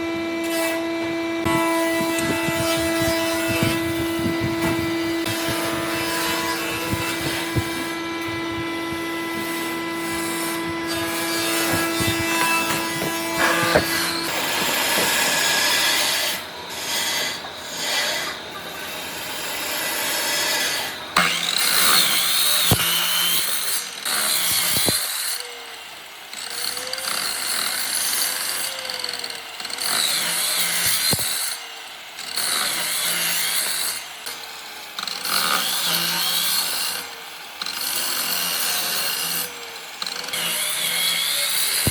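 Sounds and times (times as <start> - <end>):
power tool cutting wood: 0.0 - 41.9.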